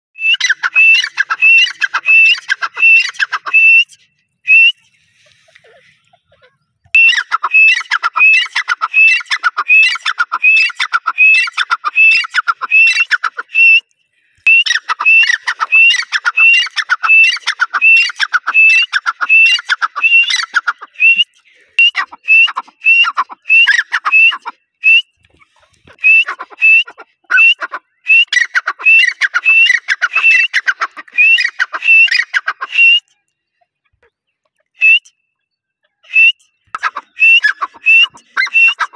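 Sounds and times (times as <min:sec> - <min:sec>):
francolin calling: 0:00.2 - 0:13.8, 0:14.5 - 0:33.1.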